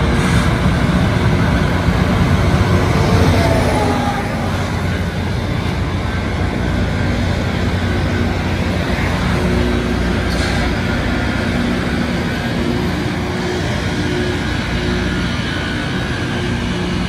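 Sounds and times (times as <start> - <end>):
diesel engines humming: 0.0 - 17.0.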